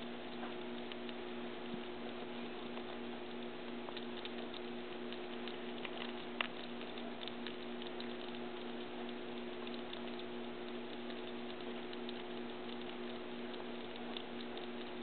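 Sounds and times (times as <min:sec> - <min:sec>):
squirrels gnawing nuts: 0:00.0 - 0:15.0
steady hum: 0:00.0 - 0:15.0.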